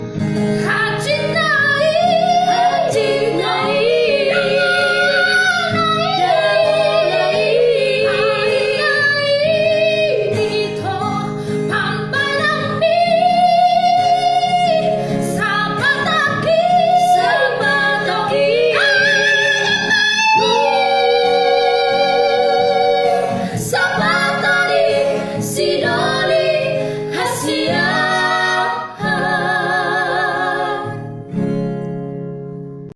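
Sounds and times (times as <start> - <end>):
guitar accompaniment: 0.0 - 32.9
woman singing with vibrato: 0.6 - 31.1.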